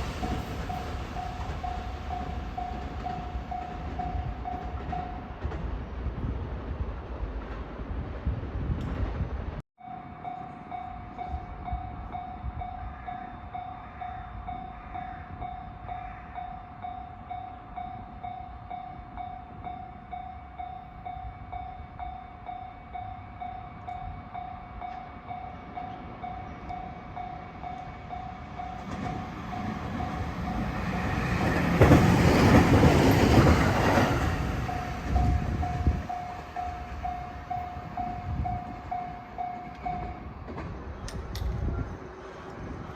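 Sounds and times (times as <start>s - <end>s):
train rumble and wheel clatter: 0.0s - 42.9s.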